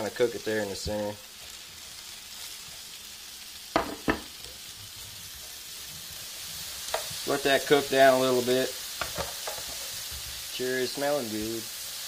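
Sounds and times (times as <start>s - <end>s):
vegetables sizzling in grease: 0.0s - 12.0s.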